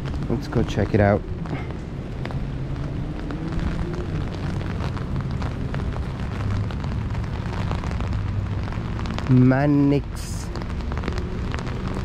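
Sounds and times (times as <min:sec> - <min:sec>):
rain on an umbrella: 0:00.0 - 0:12.0.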